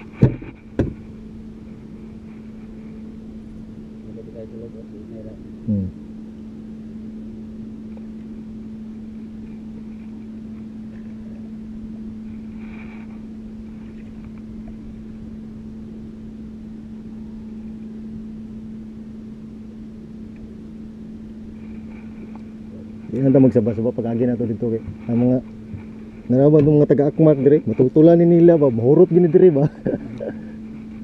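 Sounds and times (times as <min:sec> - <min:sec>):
boat engine humming: 0:00.0 - 0:31.0.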